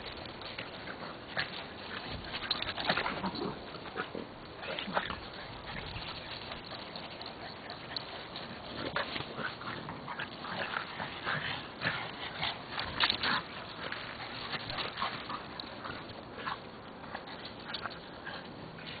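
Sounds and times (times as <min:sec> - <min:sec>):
dogs growling while playing: 0:00.0 - 0:19.0.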